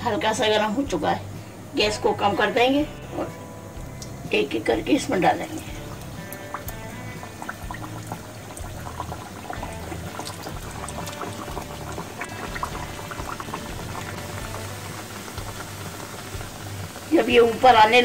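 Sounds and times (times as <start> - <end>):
pastries deep-frying in oil: 1.8 - 18.0.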